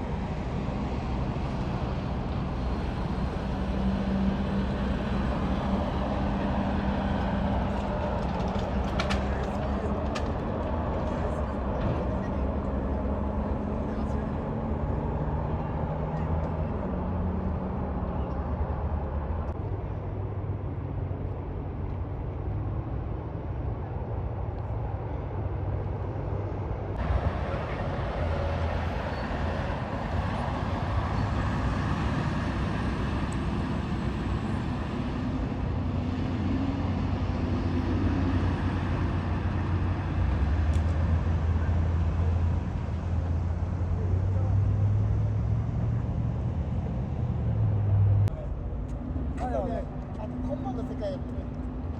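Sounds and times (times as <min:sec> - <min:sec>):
low engine hum: 0:00.0 - 0:51.9
tyre and traffic noise: 0:00.0 - 0:51.9.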